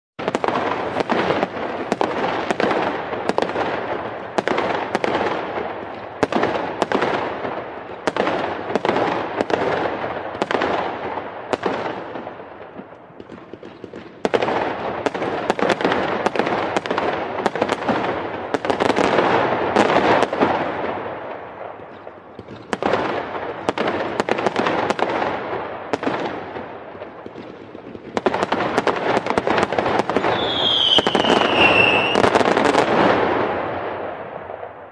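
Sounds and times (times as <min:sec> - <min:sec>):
fireworks bangs and crackling: 0:00.2 - 0:34.9.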